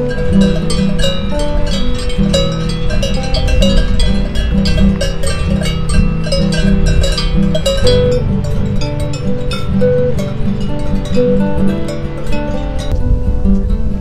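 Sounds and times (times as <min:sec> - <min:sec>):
bright ringing notes: 0:00.0 - 0:13.6
low held notes: 0:00.0 - 0:14.0.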